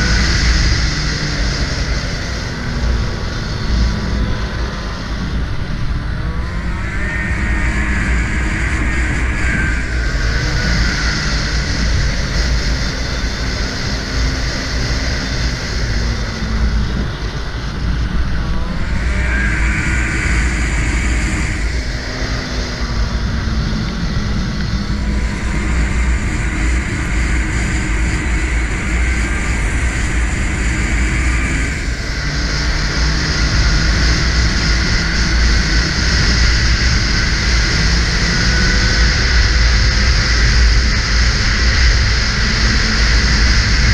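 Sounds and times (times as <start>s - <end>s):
snowmobile engine running: 0.0s - 43.9s
wind rumble on microphone: 0.0s - 43.9s.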